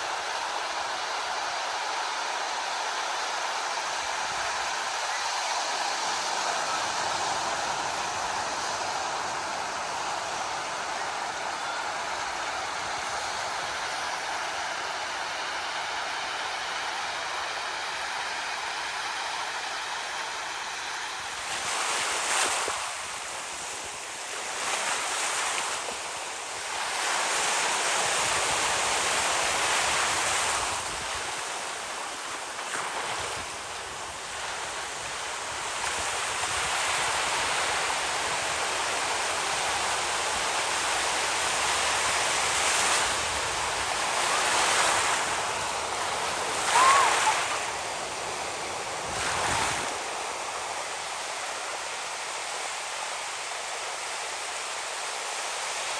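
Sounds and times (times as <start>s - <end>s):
waves breaking on shore: 0.0s - 55.9s.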